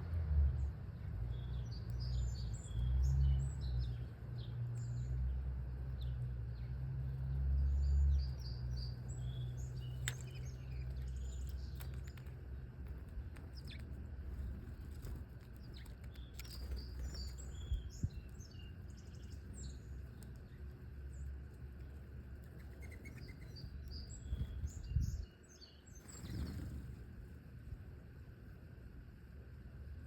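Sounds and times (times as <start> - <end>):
steady low rumble: 0.0 - 30.0
small birds chirping: 0.6 - 27.3.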